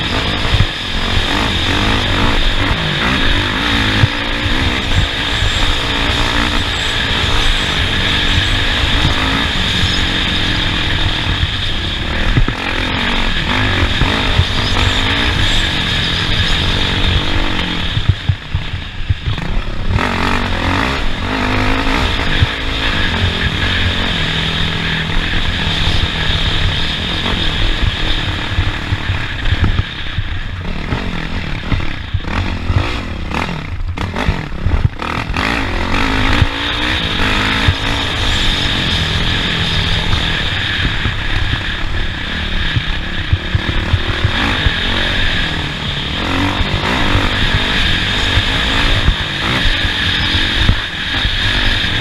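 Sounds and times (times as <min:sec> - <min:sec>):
race vehicle engine revving: 0:00.0 - 0:52.0.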